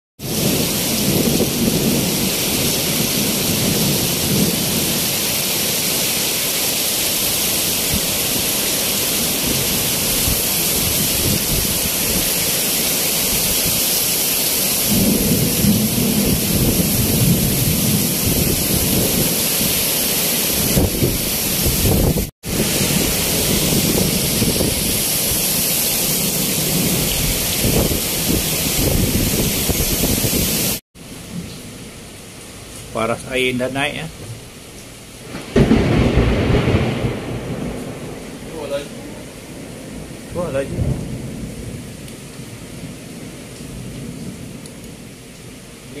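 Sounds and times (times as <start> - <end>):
low rumbling wind: 0.2 - 6.1, 6.8 - 14.0, 14.6 - 33.0, 34.1 - 45.8
heavy rain pouring: 0.2 - 46.0.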